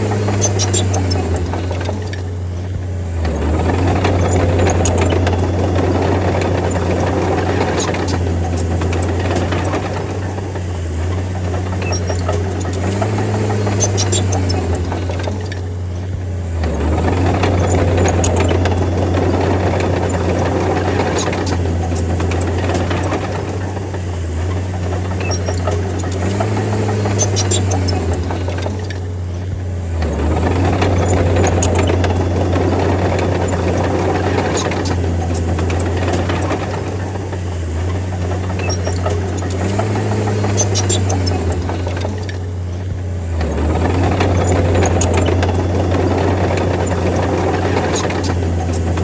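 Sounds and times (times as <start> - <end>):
bulldozer diesel engine droning: 0.0 - 49.0
tracks clanking and rattling: 0.0 - 49.0.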